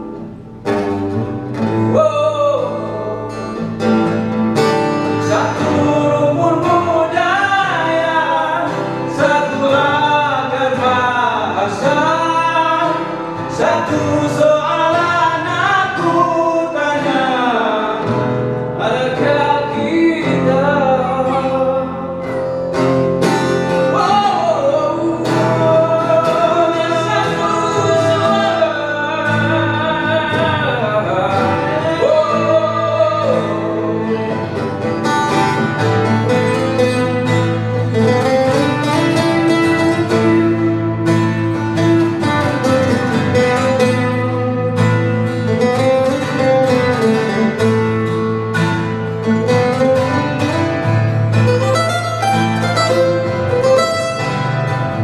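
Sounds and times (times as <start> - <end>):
acoustic guitars strummed and picked: 0.0 - 55.0
man singing: 1.6 - 55.0.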